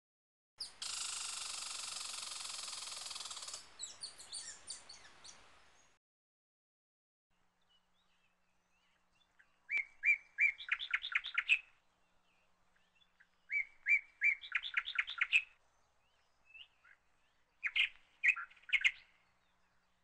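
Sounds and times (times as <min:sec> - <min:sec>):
songbird singing: 0:00.6 - 0:06.0, 0:07.3 - 0:20.0.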